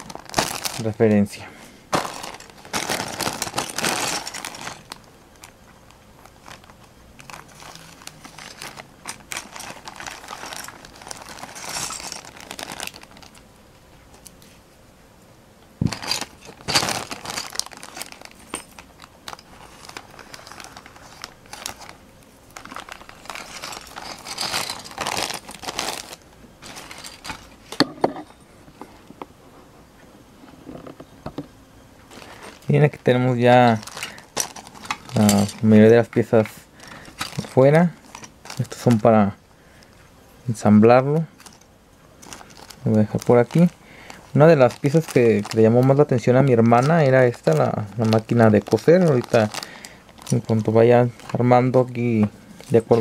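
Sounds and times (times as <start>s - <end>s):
plastic bags crinkling: 0.0s - 13.5s, 15.8s - 27.8s, 32.0s - 53.0s.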